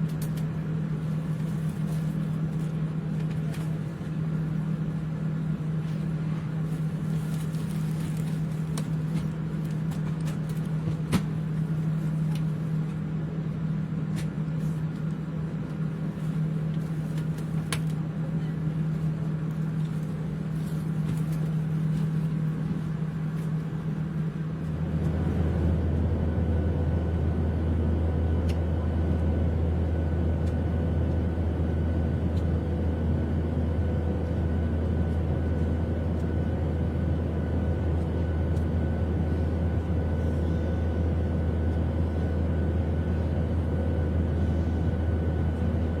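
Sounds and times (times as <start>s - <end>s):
airliner engine drone: 0.0s - 46.0s.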